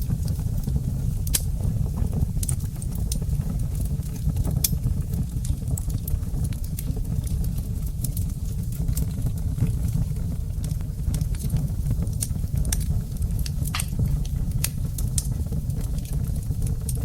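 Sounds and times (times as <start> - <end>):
low rumble of flames: 0.0 - 17.0
wood fire popping and snapping: 0.0 - 17.0.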